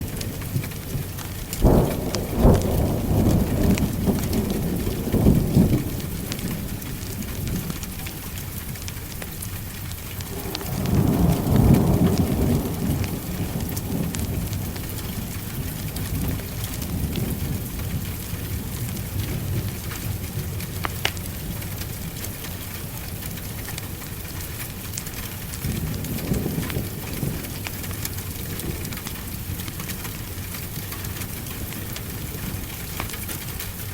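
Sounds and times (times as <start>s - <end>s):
heavy rain: 0.0s - 33.9s
thunder rumbling: 0.0s - 33.9s
wood fire crackling: 0.0s - 33.9s.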